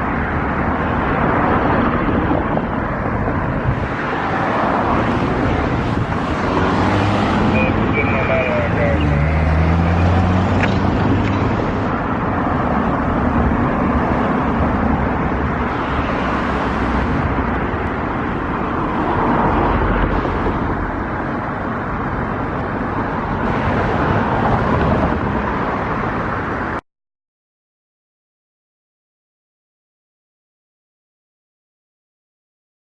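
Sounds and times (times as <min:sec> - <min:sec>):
passing train rumbling: 0:00.0 - 0:26.8.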